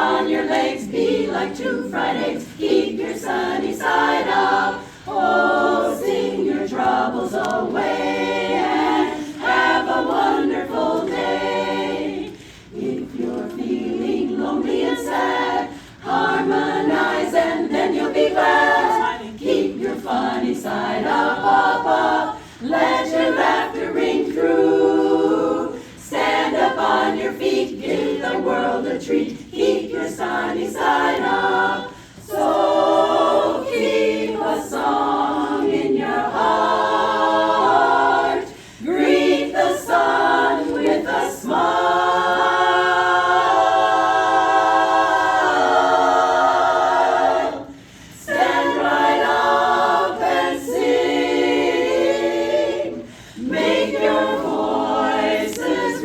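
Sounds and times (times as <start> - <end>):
a cappella choir singing: 0.0 - 56.0.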